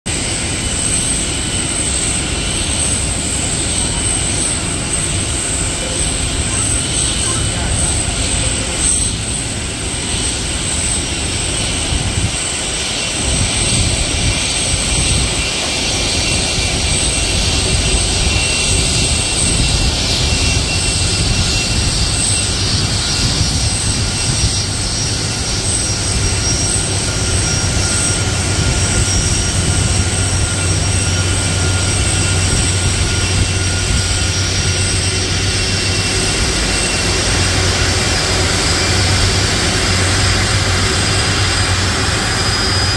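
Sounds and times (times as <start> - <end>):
jet engines whining and rumbling: 0.1 - 42.9.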